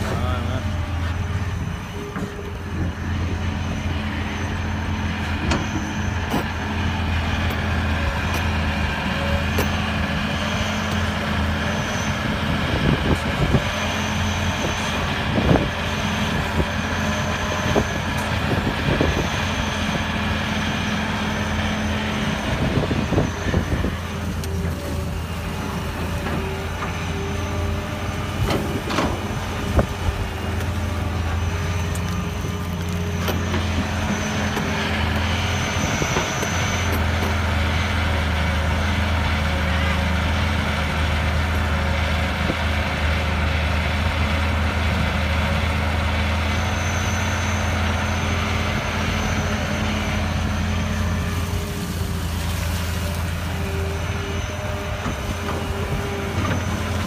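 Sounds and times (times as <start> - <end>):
excavator diesel engine and hydraulics: 0.0 - 57.0.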